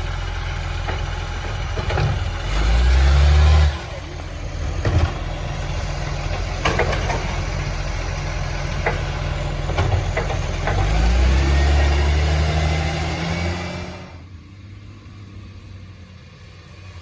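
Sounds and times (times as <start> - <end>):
truck diesel engine revving: 0.0 - 14.3.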